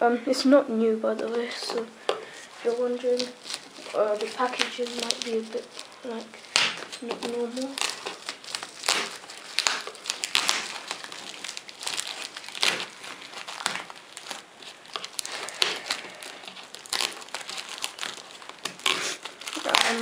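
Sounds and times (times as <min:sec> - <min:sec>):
plastic wrapping crinkling: 0:00.9 - 0:20.0.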